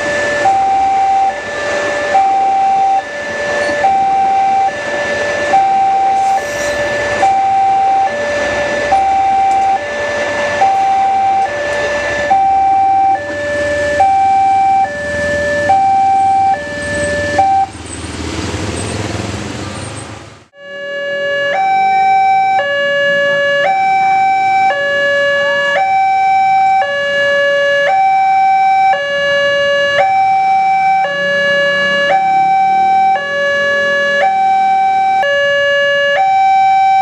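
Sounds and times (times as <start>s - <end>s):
two-tone crossing alarm siren: 0.0s - 17.8s, 20.5s - 37.0s.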